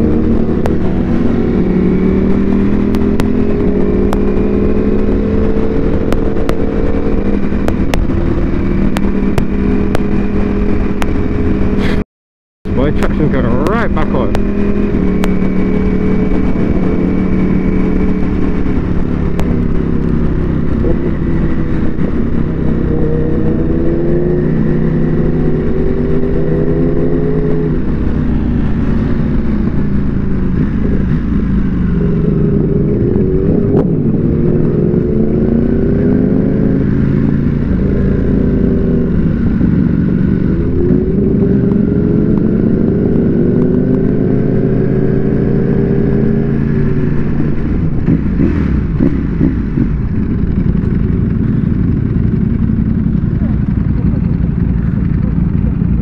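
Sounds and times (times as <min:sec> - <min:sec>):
motorcycle engine revving: 0:00.0 - 0:12.0, 0:12.7 - 0:56.0.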